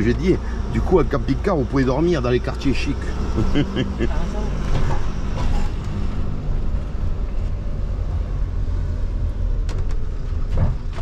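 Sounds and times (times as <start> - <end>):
low engine rumble: 0.0 - 11.0
road noise: 0.0 - 11.0.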